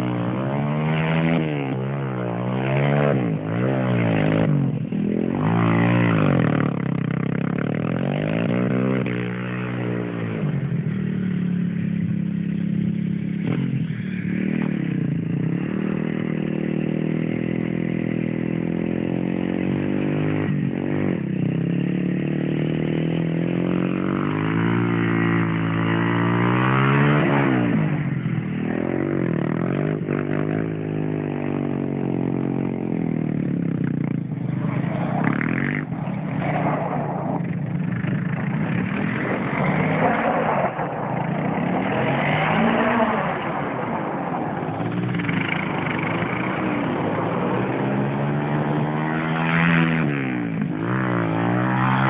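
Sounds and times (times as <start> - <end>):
atv engines revving: 0.0 - 52.0.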